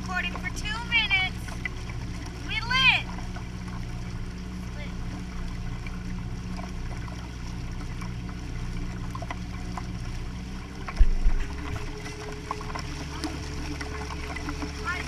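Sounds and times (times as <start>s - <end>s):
motorboat engine hum: 0.0s - 15.0s
water splashing along hull: 0.0s - 15.0s.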